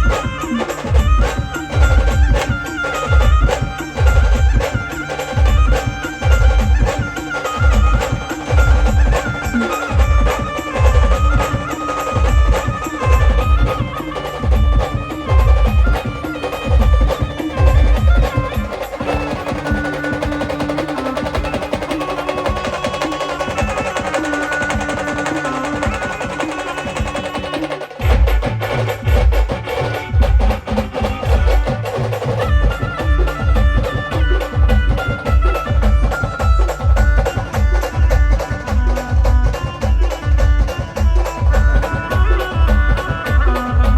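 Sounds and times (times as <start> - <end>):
heavy bass drum beats: 0.0 - 43.9.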